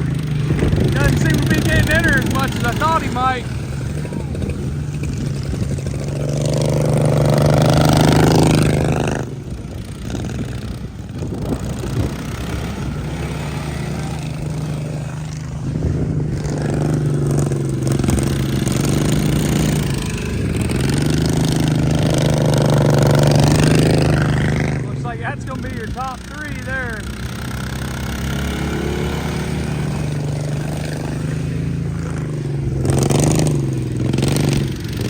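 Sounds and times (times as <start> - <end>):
lawn mower engines racing: 0.0 - 35.0.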